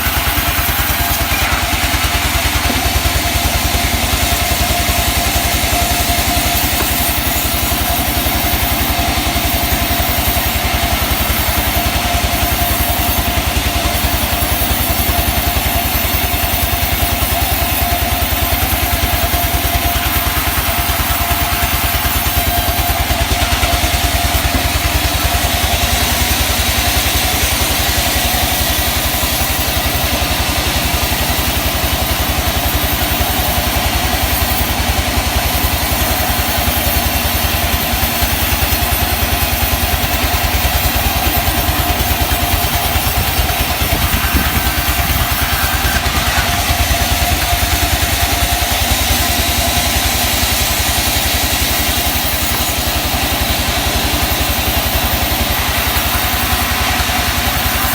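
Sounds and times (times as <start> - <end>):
sawmill machinery engine drone: 0.0 - 57.9.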